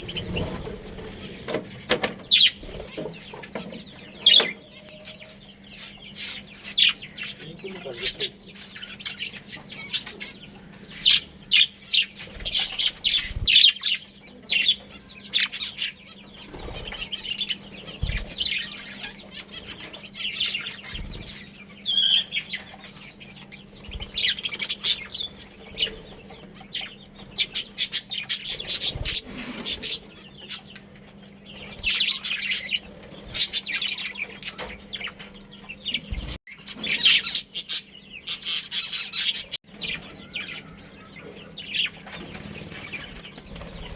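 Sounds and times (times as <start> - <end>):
budgerigars chirping and chattering: 0.0 - 43.9.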